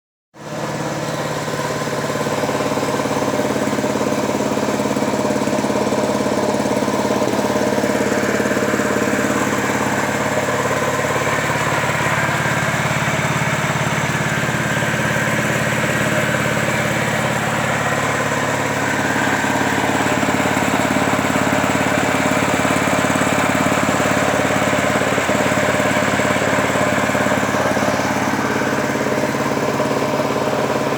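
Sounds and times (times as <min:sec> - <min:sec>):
grinding mill machine drone: 0:00.4 - 0:30.9.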